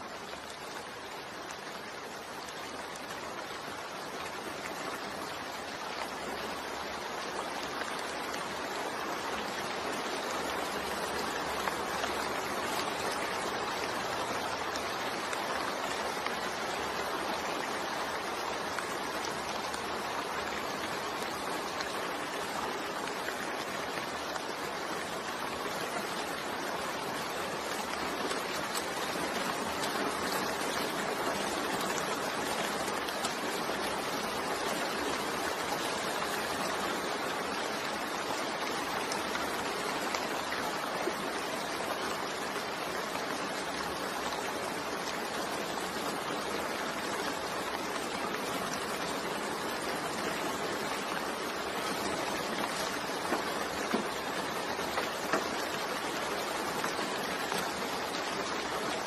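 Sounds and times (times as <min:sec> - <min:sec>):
heavy rain falling: 0:00.0 - 0:59.0
louder raindrops: 0:00.0 - 0:59.0.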